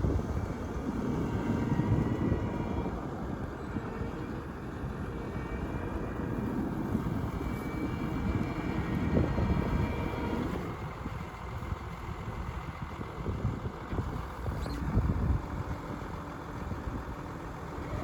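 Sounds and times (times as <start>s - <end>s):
faint machine whine: 0.0s - 18.0s
tractor rumble: 0.0s - 18.0s.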